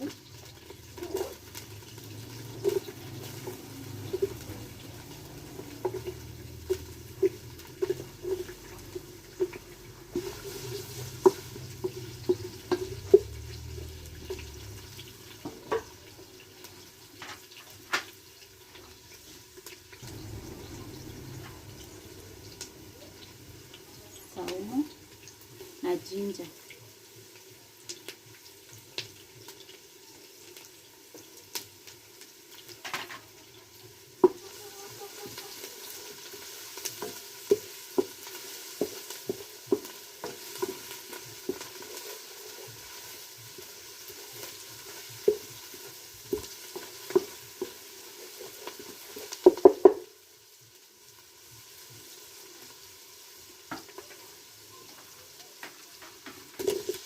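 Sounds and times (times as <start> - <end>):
garlic and ginger sizzling: 0.0 - 57.0.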